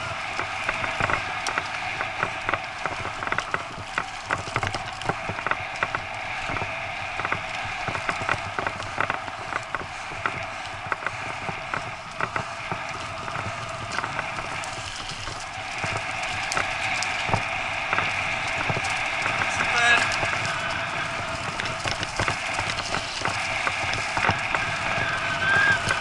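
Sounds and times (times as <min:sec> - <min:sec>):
bicycle tyres rushing on dirt: 0:00.0 - 0:26.0
bike clicks and rattles: 0:00.0 - 0:26.0.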